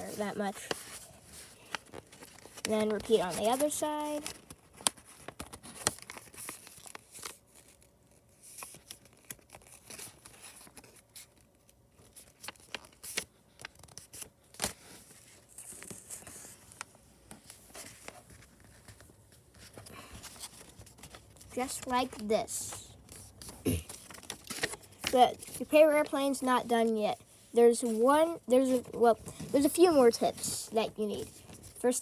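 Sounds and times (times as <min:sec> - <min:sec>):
paper rustling and crinkling: 0:00.0 - 0:32.0.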